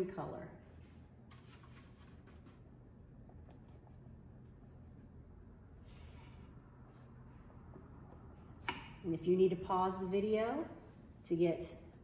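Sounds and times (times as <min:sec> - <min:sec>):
low room hum: 0:00.0 - 0:12.0
paintbrush scratching on canvas: 0:00.0 - 0:12.0.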